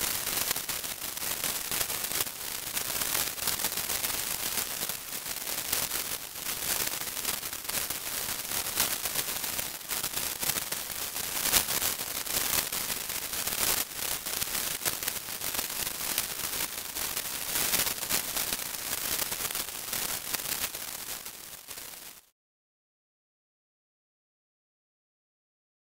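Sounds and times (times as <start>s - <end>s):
synthetic hiss with crackling bursts: 0.0s - 22.4s.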